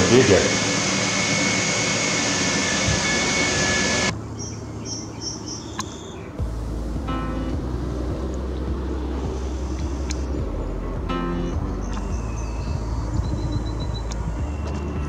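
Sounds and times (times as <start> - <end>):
fan rushing air with whine: 0.0 - 14.8
low rumble: 0.0 - 15.0.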